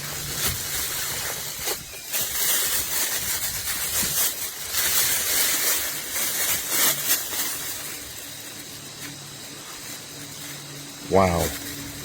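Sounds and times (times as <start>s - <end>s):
packaging rustling and crackling: 0.0s - 12.0s.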